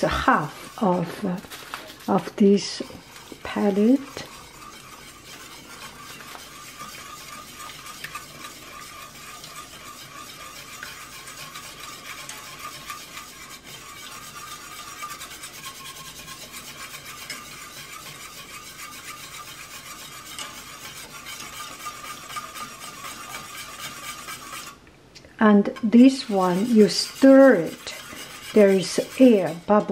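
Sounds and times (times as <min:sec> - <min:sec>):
whisk scraping metal pan: 0:00.0 - 0:24.8, 0:25.6 - 0:29.9.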